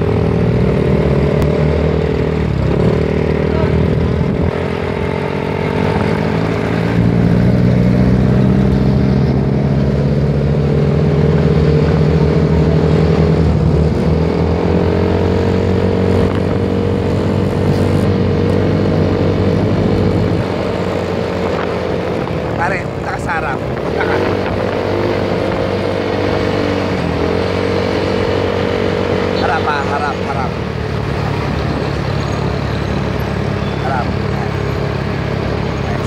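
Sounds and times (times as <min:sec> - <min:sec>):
road noise: 0:00.0 - 0:36.0
vehicle engine running: 0:00.0 - 0:36.0.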